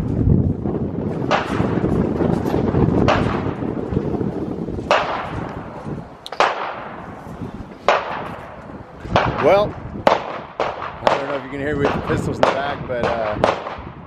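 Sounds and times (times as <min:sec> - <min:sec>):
gunshots echoing: 0:01.1 - 0:14.0.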